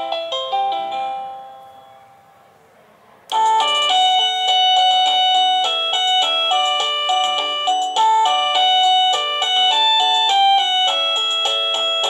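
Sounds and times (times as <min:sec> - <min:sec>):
electronic doorbell chime melody: 0:00.0 - 0:02.4, 0:03.3 - 0:12.0.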